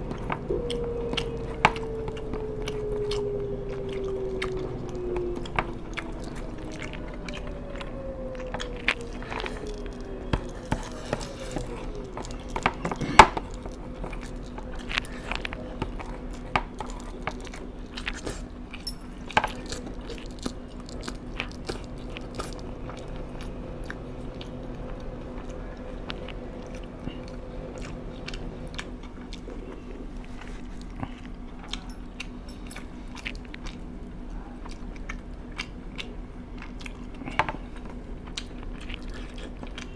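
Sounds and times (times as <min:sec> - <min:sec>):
low steady hum: 0:00.0 - 0:39.9
person chewing food: 0:00.0 - 0:39.9.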